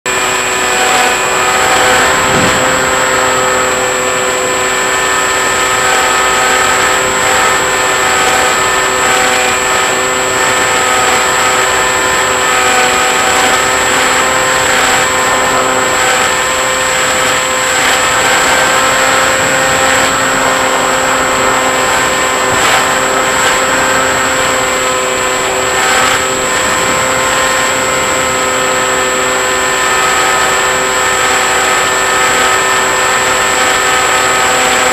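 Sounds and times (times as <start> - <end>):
model plane motor whine: 0.1 - 34.9
wind rushing over microphone: 0.2 - 33.5.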